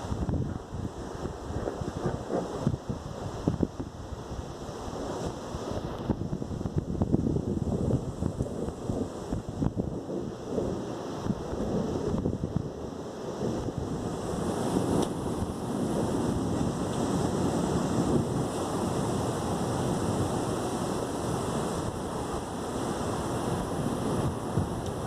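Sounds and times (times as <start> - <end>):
wind and rain rushing: 0.0 - 25.0
wind gusts buffeting microphone: 0.0 - 25.0.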